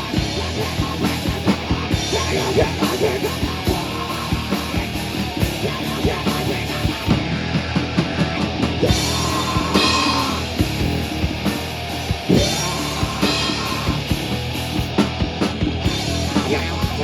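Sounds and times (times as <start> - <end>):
drum kit beat: 0.0 - 17.0
electric guitar: 0.0 - 17.0
live rock band playing: 0.0 - 17.0.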